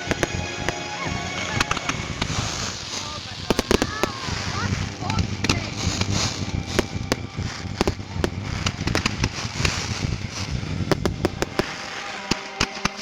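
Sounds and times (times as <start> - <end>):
firework shells bursting: 0.0 - 13.0
fireworks crackling and hissing: 0.0 - 13.0.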